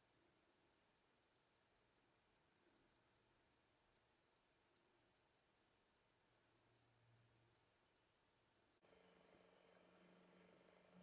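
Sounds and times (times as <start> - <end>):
pocket watch ticking faintly: 0.0 - 11.0.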